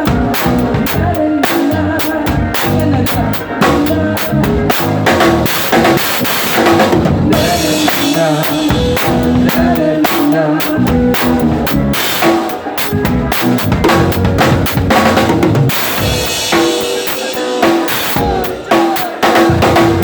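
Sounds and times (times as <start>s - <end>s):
acoustic drum kit played hard: 0.0s - 20.0s
pop-rock backing track: 0.0s - 20.0s.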